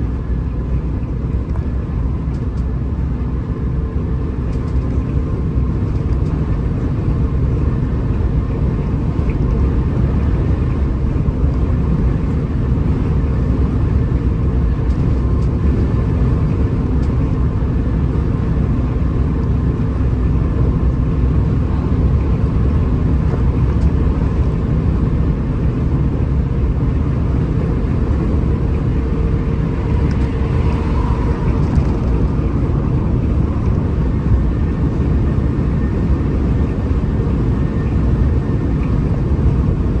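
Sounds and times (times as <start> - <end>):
bus diesel engine drone: 0.0 - 40.0
low road rumble: 0.0 - 40.0.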